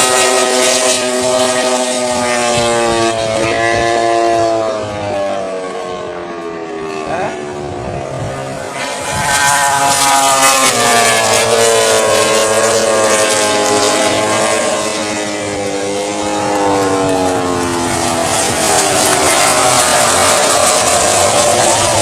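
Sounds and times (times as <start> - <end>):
racing motorcycles passing: 0.0 - 22.0.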